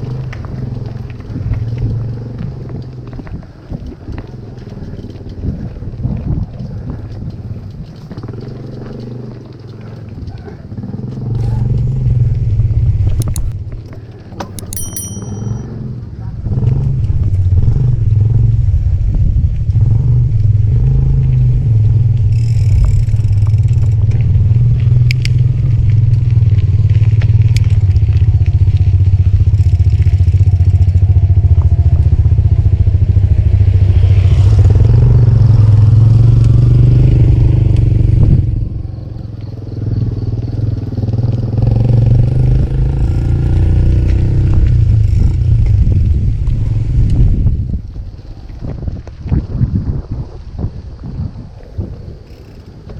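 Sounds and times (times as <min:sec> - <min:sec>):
wind buffeting microphone: 0:00.0 - 0:09.3, 0:16.1 - 0:52.9.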